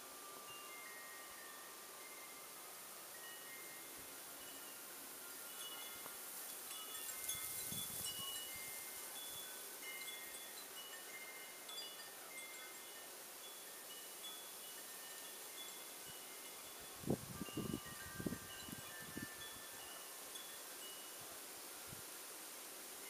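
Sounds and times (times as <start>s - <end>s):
wind chimes ringing: 0.0s - 21.9s
soft wind hiss: 0.0s - 23.0s.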